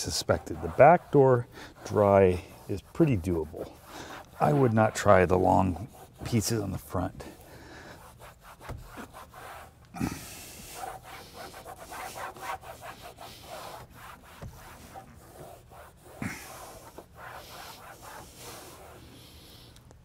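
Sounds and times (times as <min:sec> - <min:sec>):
cloth rubbing on plastic: 0:00.0 - 0:07.4, 0:08.0 - 0:19.7.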